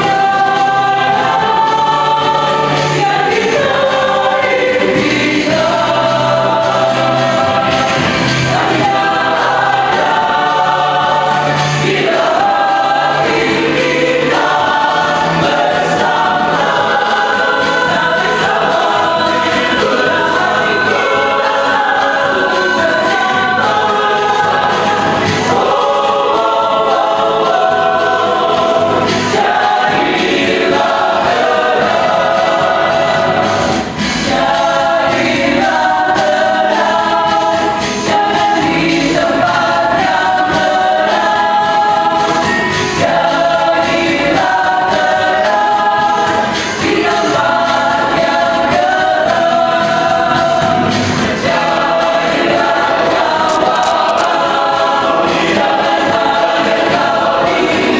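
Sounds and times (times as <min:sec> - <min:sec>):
choir singing in harmony: 0:00.0 - 0:57.9.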